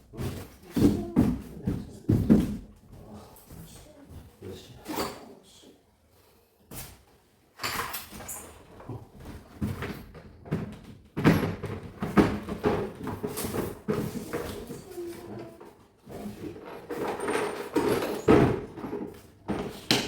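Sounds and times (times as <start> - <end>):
knocks and clatters of handling: 0.0 - 4.3, 7.6 - 20.0.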